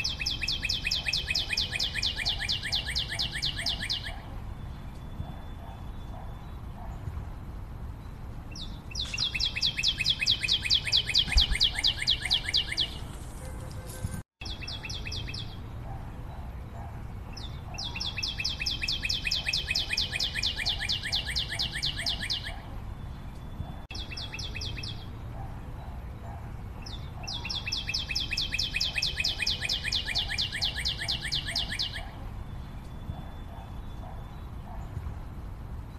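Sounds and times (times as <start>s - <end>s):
bird singing fast trills: 0.0s - 6.9s, 8.0s - 13.2s, 14.4s - 16.6s, 17.3s - 34.8s.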